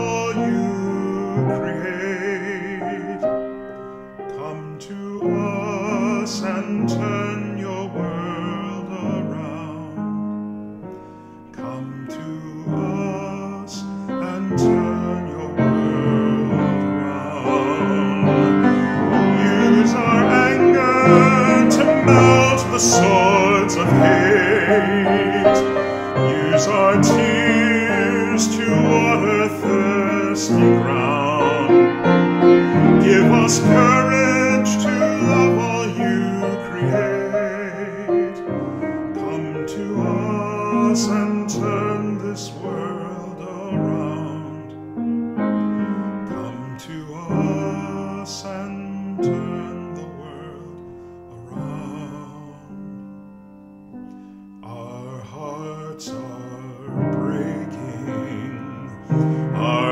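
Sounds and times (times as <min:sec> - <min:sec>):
man singing with vibrato: 0:00.0 - 0:59.9
piano accompaniment: 0:00.0 - 0:59.9.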